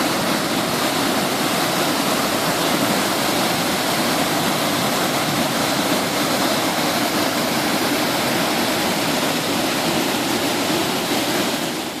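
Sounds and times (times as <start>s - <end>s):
fast-flowing stream rushing: 0.0s - 12.0s.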